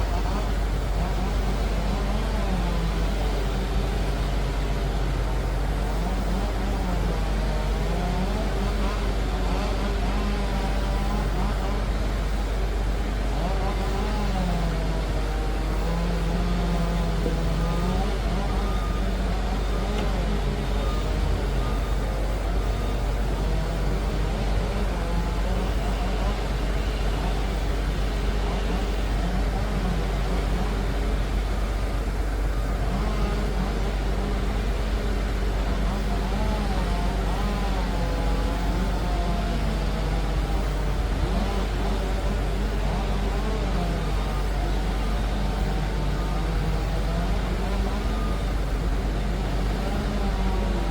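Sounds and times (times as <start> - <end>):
dozer diesel engine rumbling: 0.0 - 50.9.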